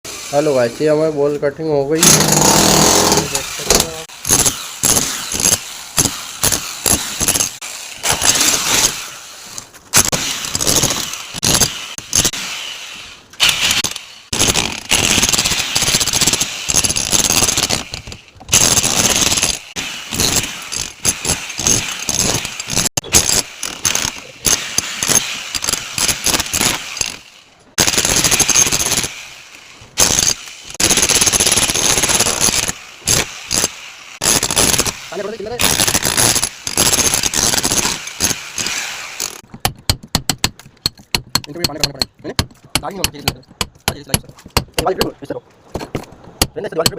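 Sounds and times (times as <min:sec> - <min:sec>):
power chipping hammer rattling: 0:02.0 - 0:12.7, 0:13.4 - 0:45.1.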